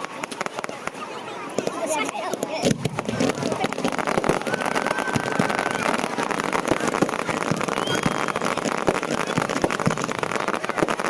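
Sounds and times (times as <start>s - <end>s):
murmur of outdoor crowd: 0.0s - 11.0s
rapid crackling and popping: 0.0s - 11.0s.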